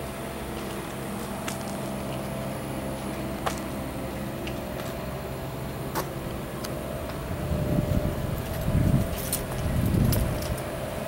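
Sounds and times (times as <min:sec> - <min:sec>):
faint steady whine: 0:00.0 - 0:11.0
low mechanical hum: 0:00.0 - 0:11.0.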